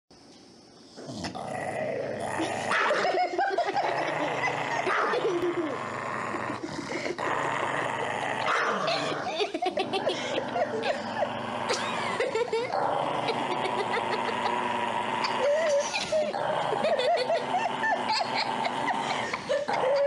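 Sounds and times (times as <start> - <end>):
dog growling: 1.0 - 20.0.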